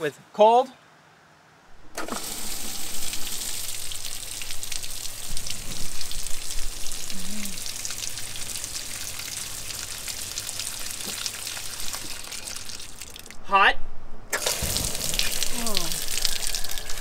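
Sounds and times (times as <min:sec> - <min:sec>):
water gushing and splashing: 0:01.7 - 0:13.4, 0:14.3 - 0:17.0.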